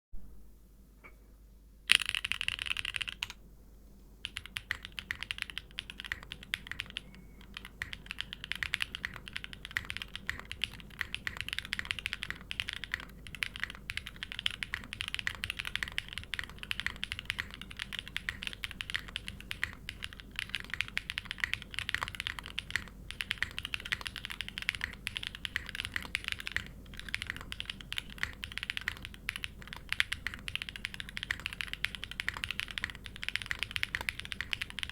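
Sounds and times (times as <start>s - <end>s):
mechanical keyboard typing: 1.9s - 3.4s, 4.2s - 34.9s.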